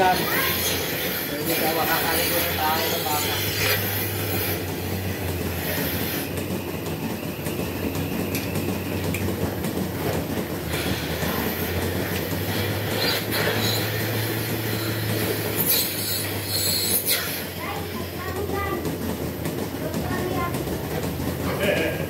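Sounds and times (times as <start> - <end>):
milking machinery humming and rattling: 0.0 - 22.0.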